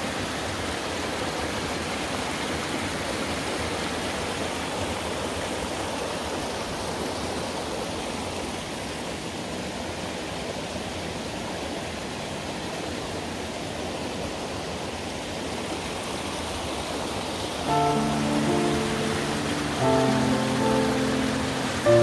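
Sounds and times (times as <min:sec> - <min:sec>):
stream flowing: 0:00.0 - 0:22.0.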